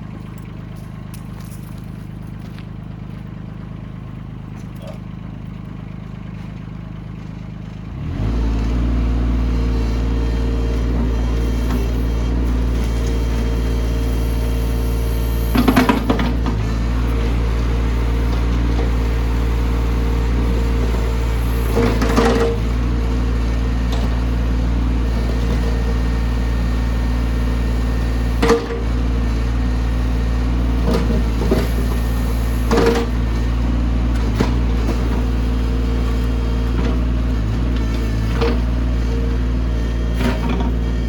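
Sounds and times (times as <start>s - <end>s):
excavator engine running: 0.0s - 41.0s.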